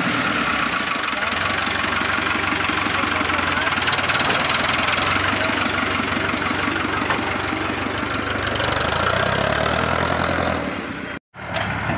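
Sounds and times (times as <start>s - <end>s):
diesel tractor engine under load: 0.0s - 11.9s.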